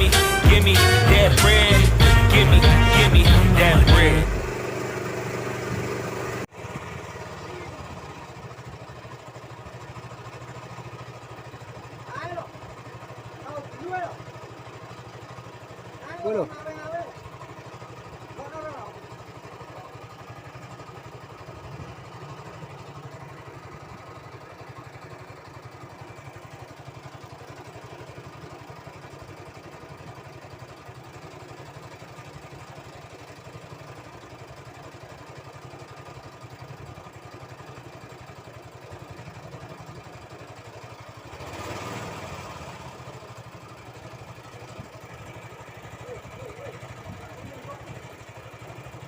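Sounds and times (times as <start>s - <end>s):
small engine idling: 0.0s - 49.0s.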